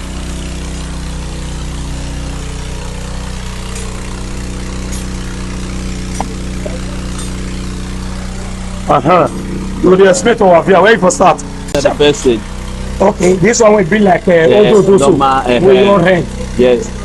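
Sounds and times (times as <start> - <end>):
drilling rig engine drone: 0.0 - 17.0.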